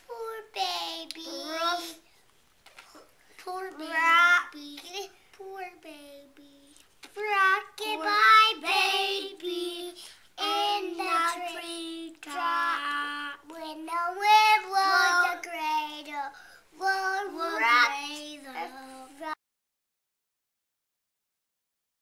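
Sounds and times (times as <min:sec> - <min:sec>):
child singing: 0:00.0 - 0:02.0, 0:03.4 - 0:19.4.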